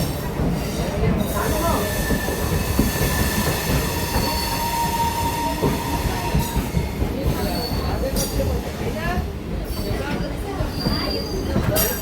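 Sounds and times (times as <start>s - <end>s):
train wheel squeal: 0.0s - 8.8s, 9.6s - 12.0s
train wheels rumbling on rails: 0.0s - 12.0s.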